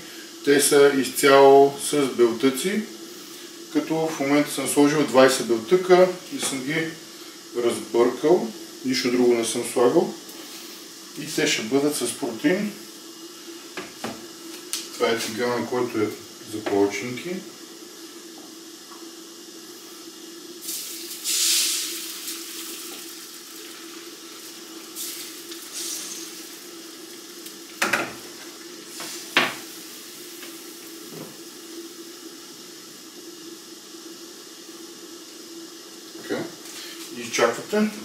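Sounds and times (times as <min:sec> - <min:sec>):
batter sizzling in frying pan: 0:00.0 - 0:38.0
steady hum: 0:00.0 - 0:38.0.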